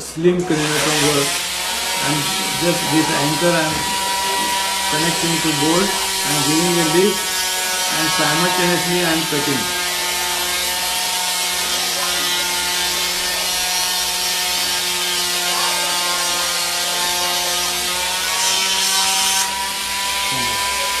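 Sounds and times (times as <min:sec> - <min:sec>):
bone saw cutting plywood: 0:00.0 - 0:21.0.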